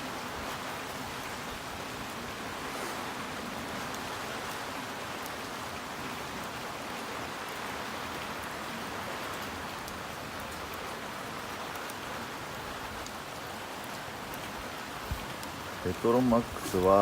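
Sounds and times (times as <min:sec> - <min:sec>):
heavy rain on a tarp: 0:00.0 - 0:17.0.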